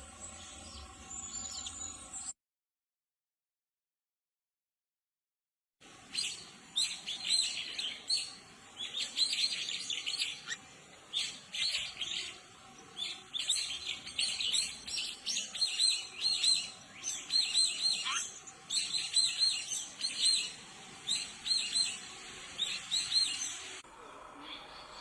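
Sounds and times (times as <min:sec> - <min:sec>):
small birds chirping: 0:00.1 - 0:02.3, 0:06.0 - 0:25.0.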